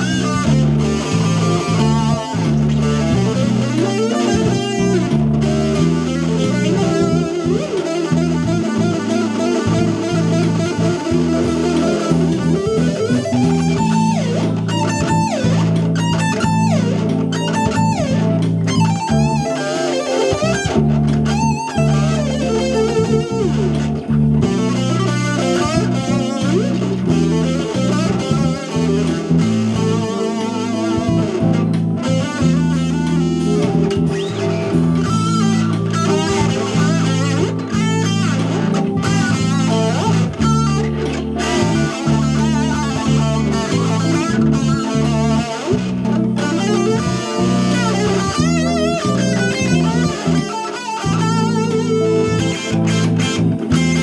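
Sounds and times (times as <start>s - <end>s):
backing track with bass line: 0.0s - 54.0s
electric guitar lead with vibrato: 0.0s - 54.0s.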